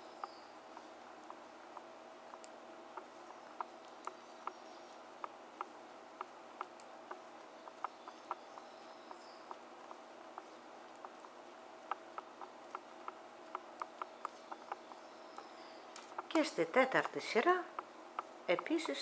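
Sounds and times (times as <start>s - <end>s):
knitting needles clicking: 0.0s - 19.0s.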